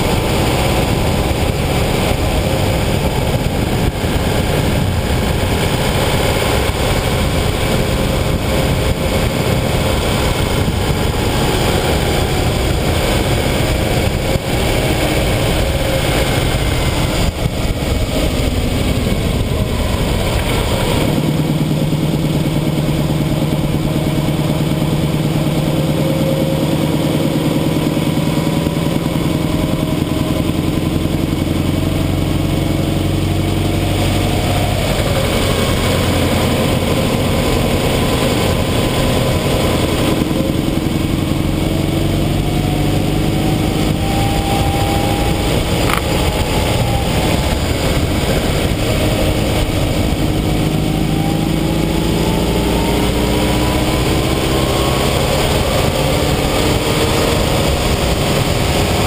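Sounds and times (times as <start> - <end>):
car engine pulling: 0.0 - 59.0
road and wind noise: 0.0 - 59.0.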